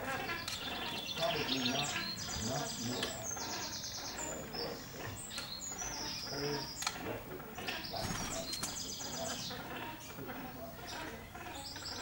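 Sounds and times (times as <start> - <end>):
songbirds trilling: 0.0 - 12.0.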